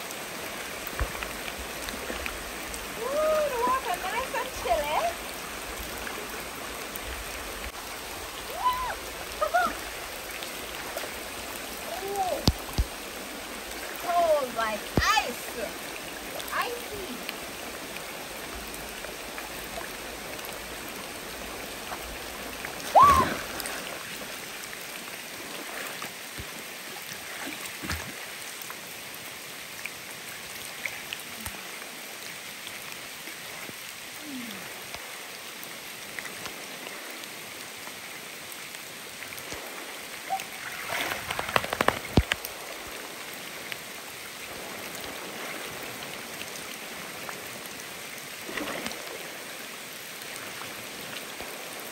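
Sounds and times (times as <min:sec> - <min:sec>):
river flowing over rocks: 0:00.0 - 0:51.9.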